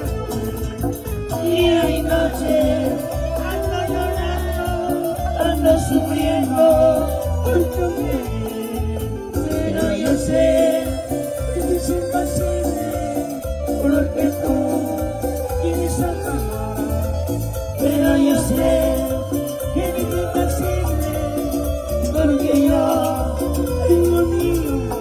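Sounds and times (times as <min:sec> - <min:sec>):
cumbia band playing: 0:00.0 - 0:25.0.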